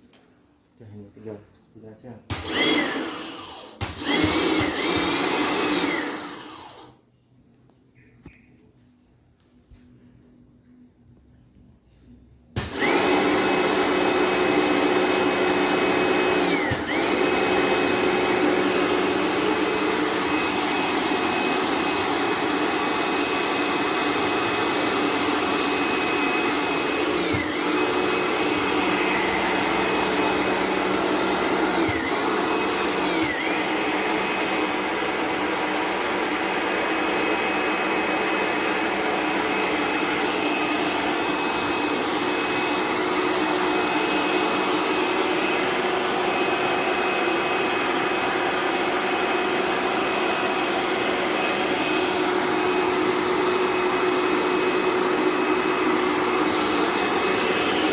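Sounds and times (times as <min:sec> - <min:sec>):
electric motor whining: 0:02.4 - 0:07.0, 0:12.6 - 0:57.9.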